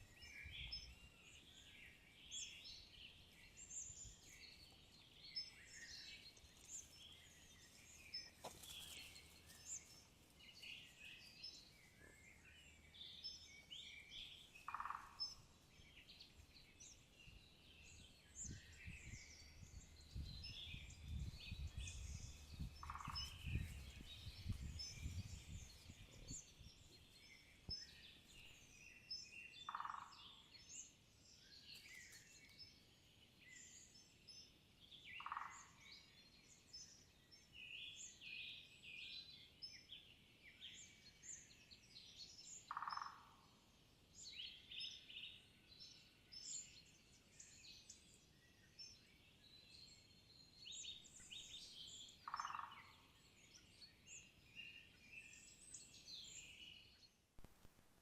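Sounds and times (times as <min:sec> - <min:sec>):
birds chirping and trilling: 0:00.0 - 0:57.2.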